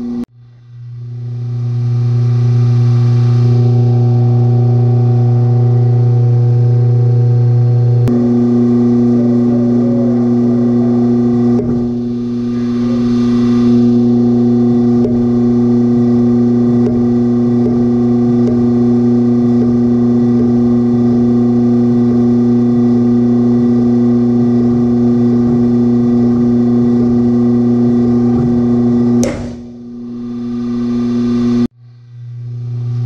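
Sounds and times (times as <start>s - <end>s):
motor hum: 0.0s - 33.0s.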